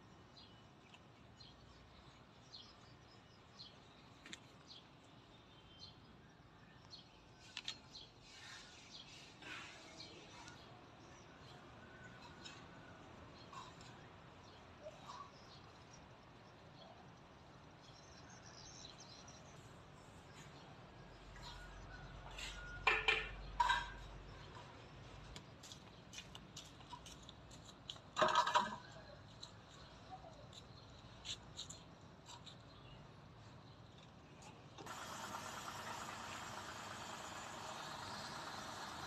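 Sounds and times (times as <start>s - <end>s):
faint background noise: 0.0s - 39.0s.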